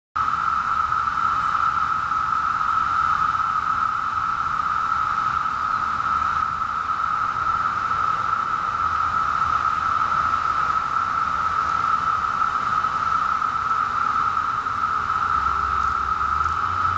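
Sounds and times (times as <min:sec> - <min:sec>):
cicadas singing: 0:00.2 - 0:16.9.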